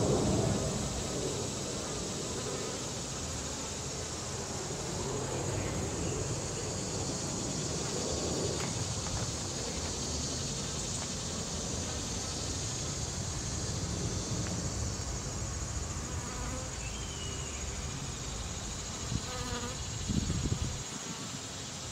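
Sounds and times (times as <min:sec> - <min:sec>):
steady background hiss: 0:00.0 - 0:21.9.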